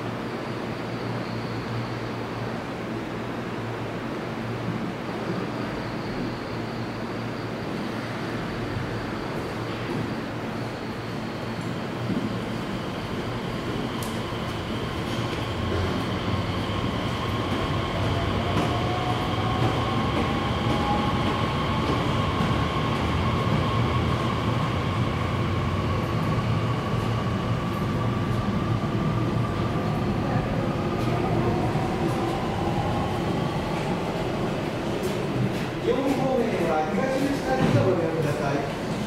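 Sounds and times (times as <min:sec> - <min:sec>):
electric train rumbling: 0:00.0 - 0:39.0.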